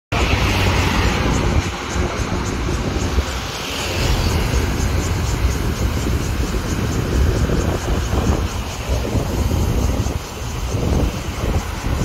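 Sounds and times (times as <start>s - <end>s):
electric train rumbling on bridge: 0.1s - 12.0s
street traffic: 0.1s - 12.0s.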